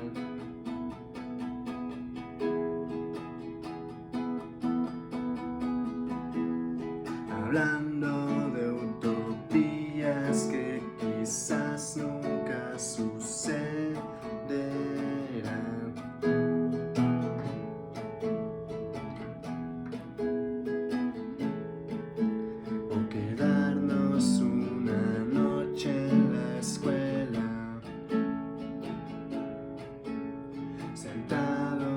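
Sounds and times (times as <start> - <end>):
acoustic guitar strumming chords: 0.0 - 31.9.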